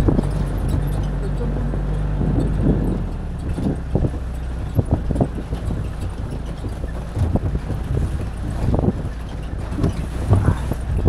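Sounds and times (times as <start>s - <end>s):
vehicle engine and ride noise: 0.0s - 11.0s
vehicle knocks and jolts: 0.0s - 11.0s
wind buffeting microphone: 0.0s - 11.0s.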